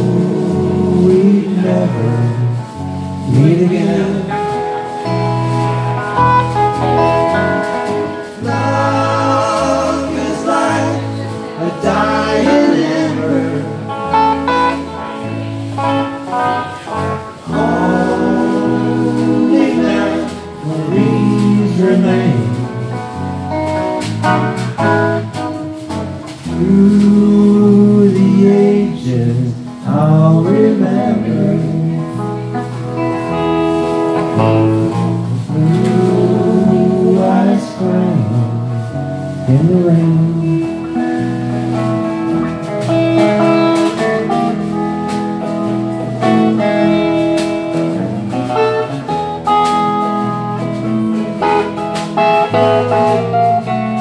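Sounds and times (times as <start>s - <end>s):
drums: 0.0s - 54.0s
electric guitars: 0.0s - 54.0s
sliding lead guitar notes: 0.0s - 54.0s.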